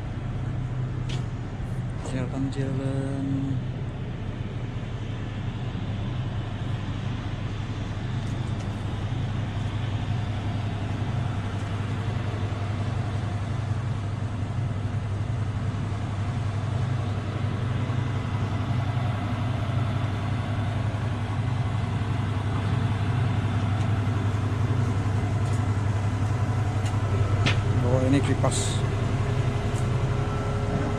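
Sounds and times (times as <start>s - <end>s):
cooling fans rushing: 0.0s - 30.9s
excavator engine humming: 0.0s - 30.9s.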